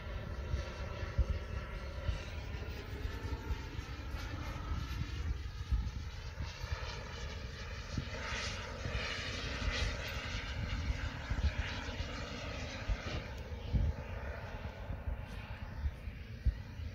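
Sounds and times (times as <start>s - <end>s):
low wind rumble: 0.0s - 16.9s
propeller aircraft engine passing: 0.0s - 16.9s.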